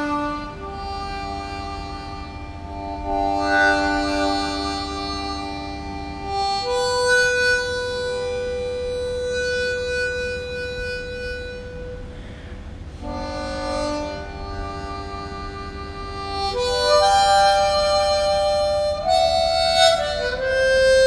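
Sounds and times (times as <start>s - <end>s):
solo harmonica playing sad tune: 0.0s - 21.0s.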